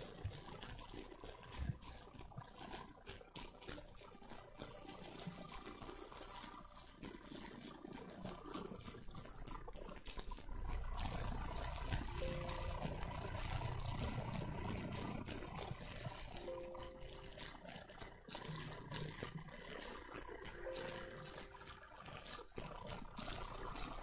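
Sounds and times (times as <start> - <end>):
faint steady background noise: 0.0 - 24.0
small ticks: 0.0 - 24.0.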